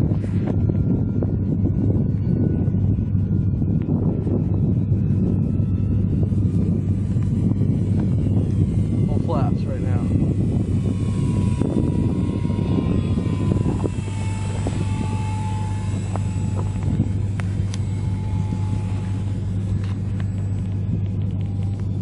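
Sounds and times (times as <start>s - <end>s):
model plane motor whine: 0.0s - 22.0s
steady low rumble: 0.0s - 22.0s.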